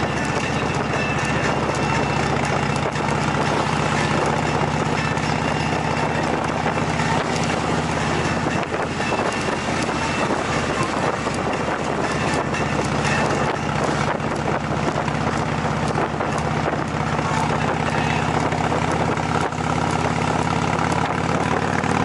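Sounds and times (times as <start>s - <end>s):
tyre road noise: 0.0s - 22.0s
vehicle engine hum: 0.0s - 22.0s
wind noise: 0.0s - 22.0s.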